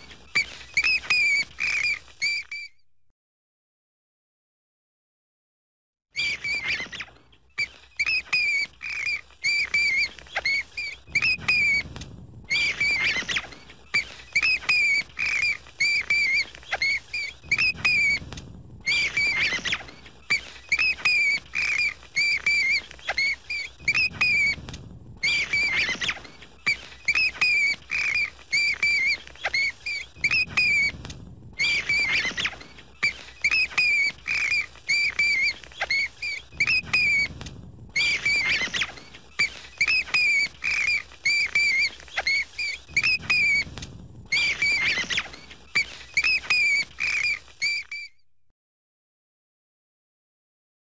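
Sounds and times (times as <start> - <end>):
bat squeaking: 0.0 - 2.8, 6.2 - 37.4, 38.0 - 48.2.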